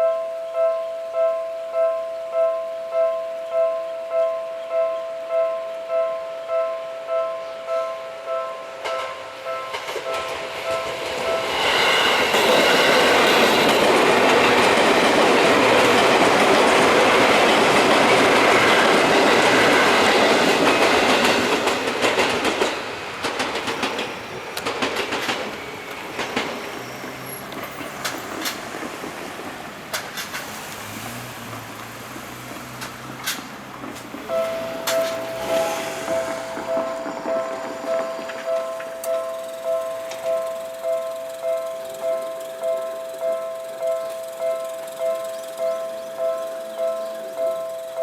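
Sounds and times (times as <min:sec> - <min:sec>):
electric train passing: 0:00.0 - 0:48.0
level-crossing warning bells: 0:00.0 - 0:48.0
wheels clicking over rail joints: 0:03.4 - 0:48.0.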